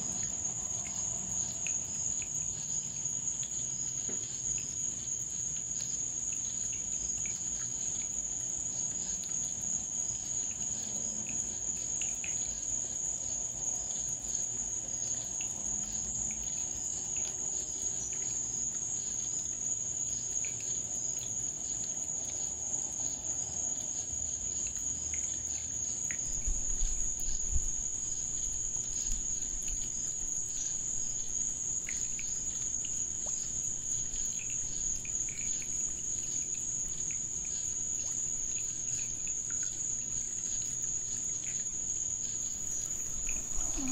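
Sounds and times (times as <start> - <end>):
crickets trilling: 0.0 - 43.9
faint ticks: 0.1 - 13.3, 13.9 - 43.9.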